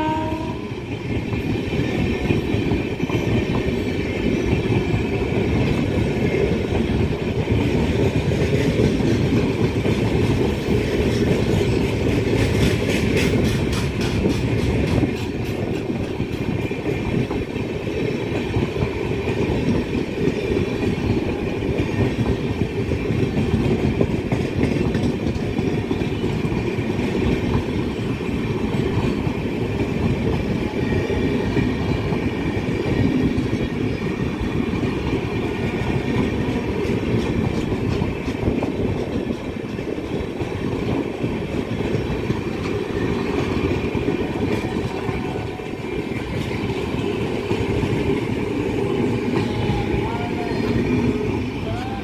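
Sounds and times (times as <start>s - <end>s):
steel wheels running on rails: 0.0s - 52.0s.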